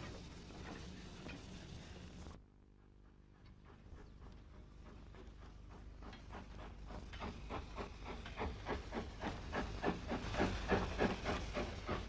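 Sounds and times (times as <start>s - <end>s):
steam locomotive exhaust beating: 0.0s - 12.0s.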